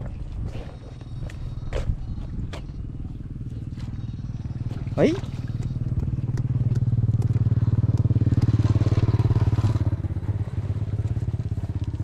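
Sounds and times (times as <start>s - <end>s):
electrofishing machine pulsing drone: 0.0s - 12.0s.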